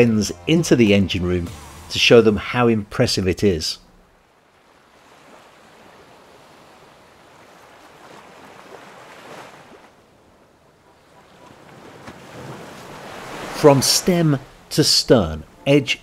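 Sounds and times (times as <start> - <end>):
faint sea waves: 0.0 - 16.0.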